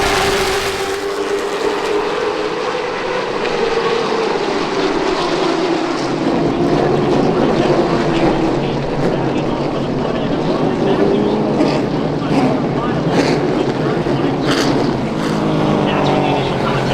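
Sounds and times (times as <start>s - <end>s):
race car engines droning: 0.0s - 16.9s.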